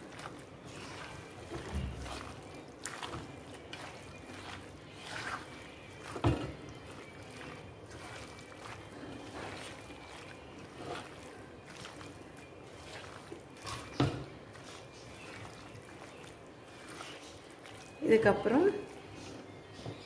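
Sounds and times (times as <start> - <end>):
wet squelching of kneaded meat: 0.0 - 20.0.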